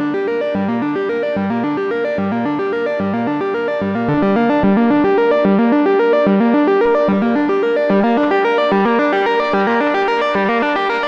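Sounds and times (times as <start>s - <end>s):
synthesizer arpeggio: 0.2s - 11.0s.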